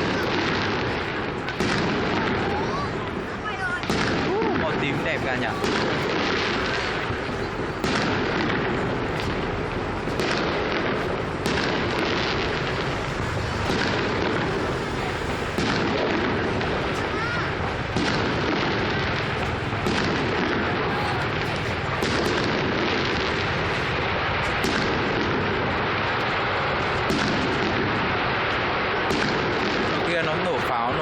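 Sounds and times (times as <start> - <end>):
fireworks crackling and rumbling: 0.0 - 31.0
sharp fireworks bangs: 0.0 - 31.0.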